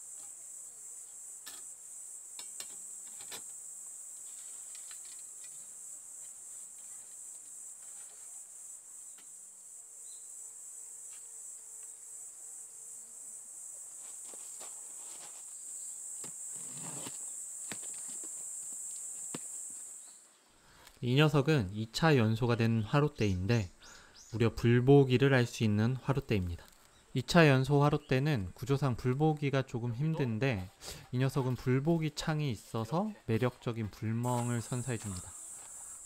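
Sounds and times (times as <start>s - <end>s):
chirring insects: 0.0s - 36.0s.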